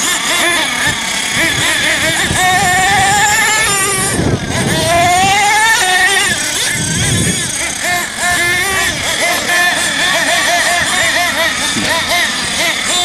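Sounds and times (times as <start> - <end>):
rc truck engines whining: 0.0 - 13.0.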